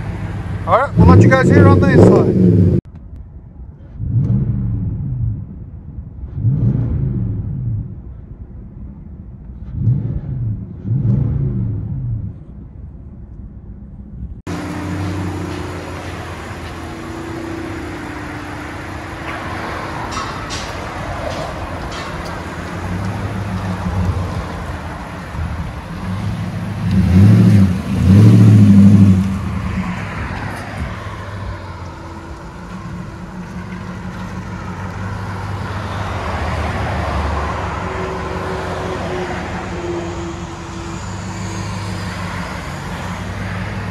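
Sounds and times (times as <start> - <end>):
truck engine revving: 0.0 - 2.9, 4.0 - 8.2, 9.6 - 12.5, 14.5 - 43.9
deep engine drone: 0.0 - 43.9.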